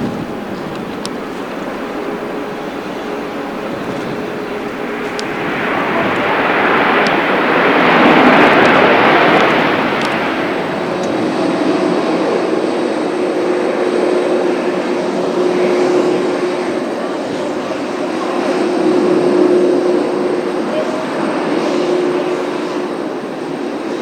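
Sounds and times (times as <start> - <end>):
airliner engine noise: 0.0 - 24.0
wind noise on microphone: 0.0 - 24.0.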